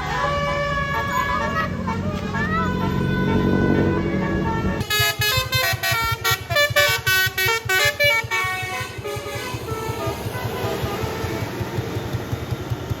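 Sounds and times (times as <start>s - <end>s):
musical air horn melody: 0.0s - 12.0s.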